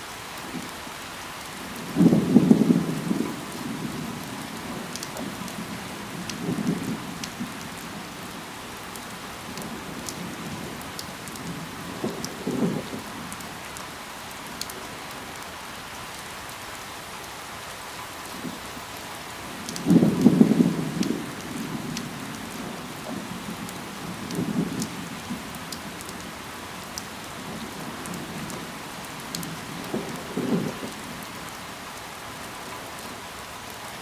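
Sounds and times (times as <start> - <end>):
rain falling on foliage: 0.0 - 34.0
crisp drip ticks: 4.2 - 27.2, 28.0 - 33.1.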